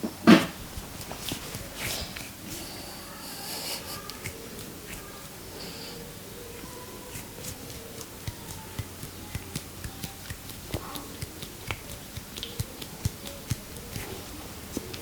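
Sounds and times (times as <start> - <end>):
hands tapping on head: 0.4 - 15.0.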